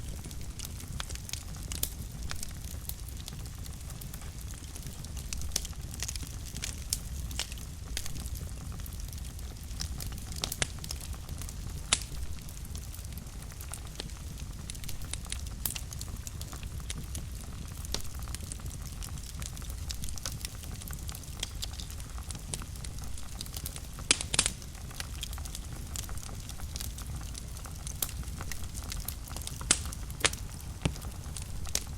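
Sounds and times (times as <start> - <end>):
fire crackles and sharp pops: 0.0 - 31.9
low rumble of flames: 0.0 - 31.9.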